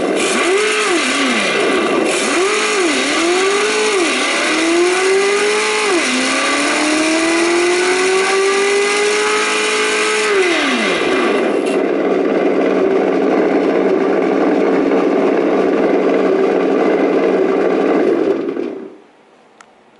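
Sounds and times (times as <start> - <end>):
simulated engine revving and idling: 0.0 - 19.0.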